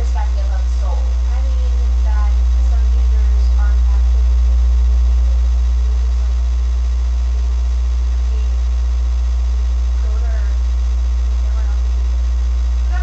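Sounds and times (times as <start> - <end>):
loud deep hum: 0.0 - 13.0.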